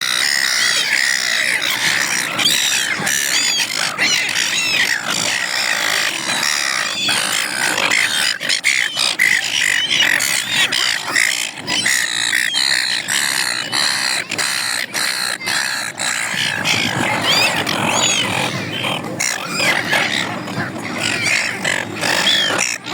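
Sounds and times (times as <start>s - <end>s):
gulls squawking: 0.0s - 22.9s.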